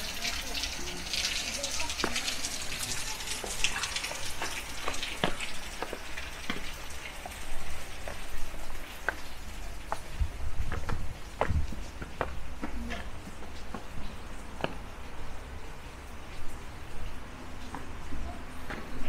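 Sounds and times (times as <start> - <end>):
water drips: 0.0 - 19.0
water running and splashing: 0.0 - 19.0.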